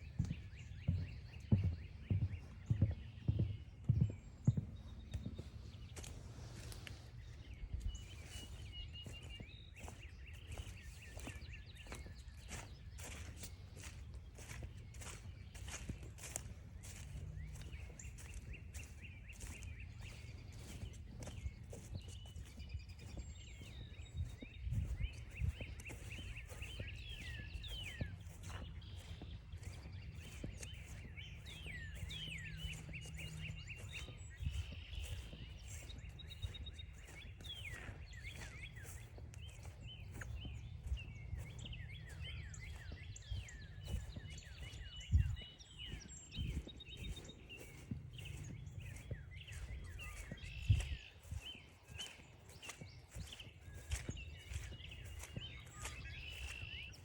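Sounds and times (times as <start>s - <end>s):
footsteps on forest trail: 0.0s - 57.0s
wild birds chirping: 0.0s - 57.0s.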